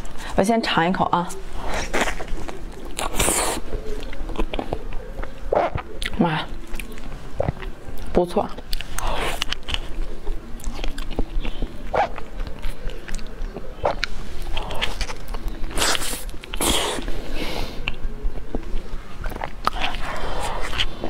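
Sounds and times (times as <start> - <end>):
wet smacking and chewing: 1.6 - 21.0.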